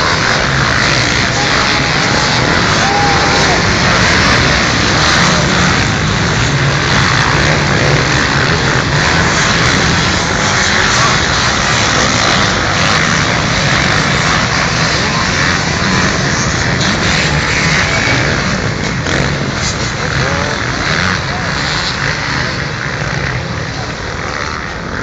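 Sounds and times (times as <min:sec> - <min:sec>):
motocross motorcycles revving: 0:00.0 - 0:25.0.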